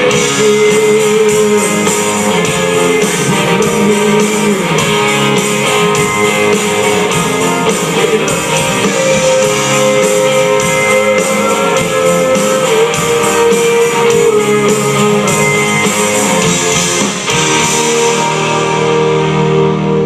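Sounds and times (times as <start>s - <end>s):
country band with guitars: 0.0s - 20.0s.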